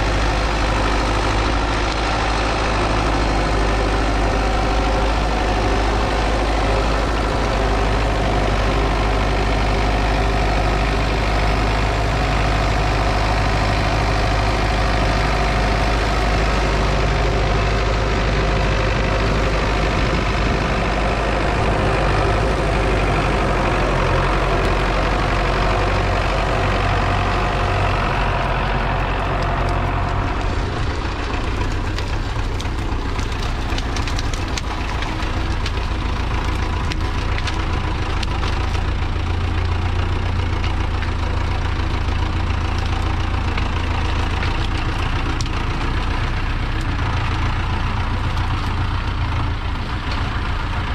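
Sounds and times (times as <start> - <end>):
tractor diesel engine running: 0.0 - 50.9
rapid crackle of sharp clicks: 0.1 - 50.5.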